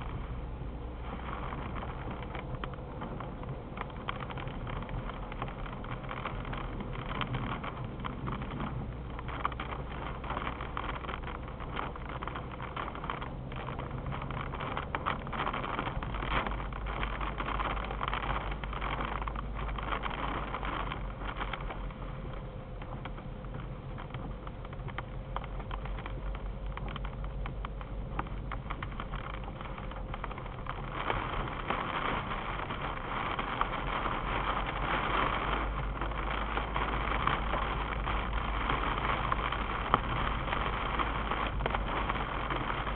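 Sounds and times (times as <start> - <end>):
rain pattering on car: 0.0 - 42.9
tyre noise on wet road: 0.0 - 42.9.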